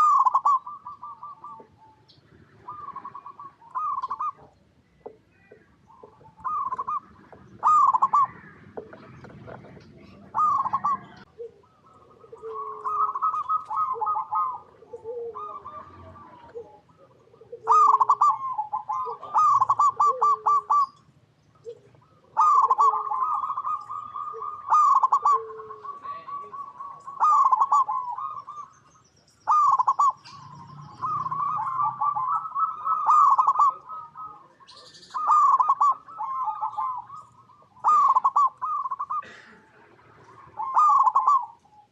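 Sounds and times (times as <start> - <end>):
dove cooing: 0.0 - 41.9.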